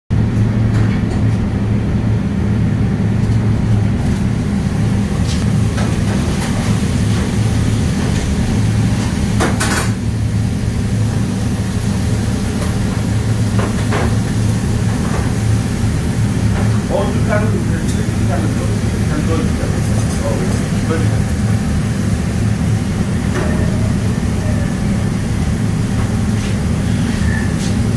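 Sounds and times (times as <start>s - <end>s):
low machine hum: 0.1s - 27.9s.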